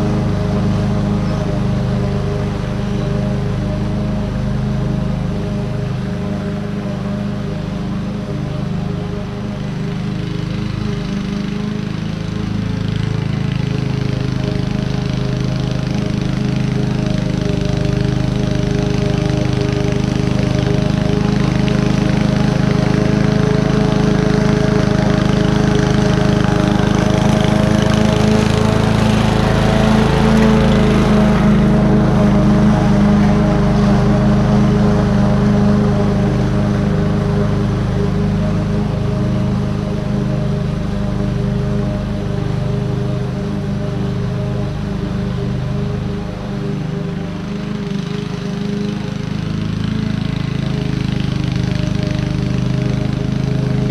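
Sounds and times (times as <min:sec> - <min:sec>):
lawn mower engine running: 0:00.0 - 0:53.9.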